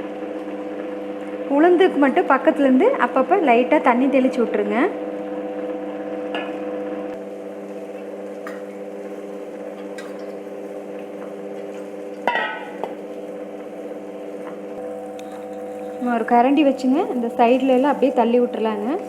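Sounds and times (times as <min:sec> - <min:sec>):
wet grinder humming: 0:00.0 - 0:19.0.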